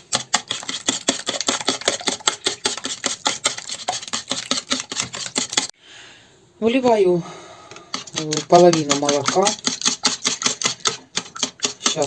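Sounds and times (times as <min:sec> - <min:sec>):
whisk clicking against bowl: 0:00.0 - 0:05.7, 0:07.7 - 0:12.0.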